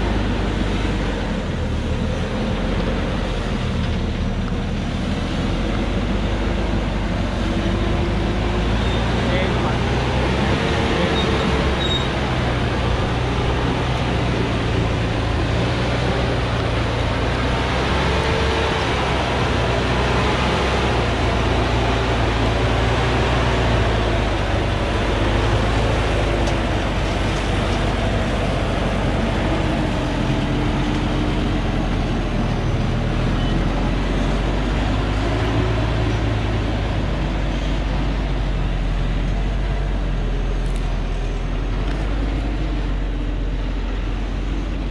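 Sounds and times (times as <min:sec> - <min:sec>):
truck diesel engine under load: 0:00.0 - 0:44.9.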